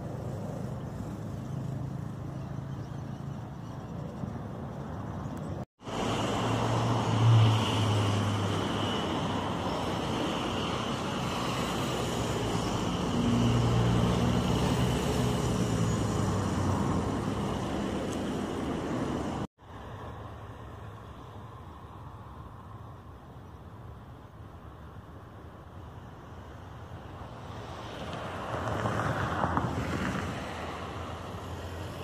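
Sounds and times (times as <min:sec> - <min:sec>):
cars passing: 0:00.0 - 0:23.0, 0:26.3 - 0:32.0.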